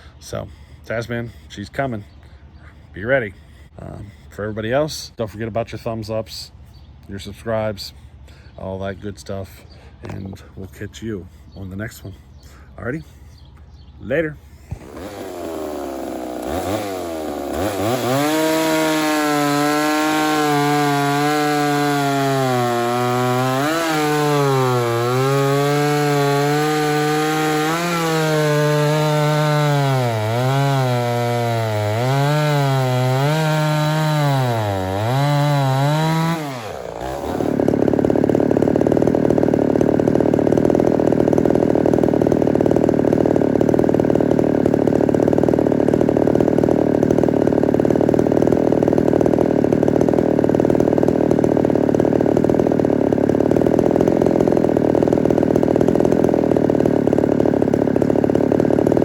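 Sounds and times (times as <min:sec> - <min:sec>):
chainsaw cutting wood: 0:05.5 - 0:11.2, 0:13.4 - 0:59.0.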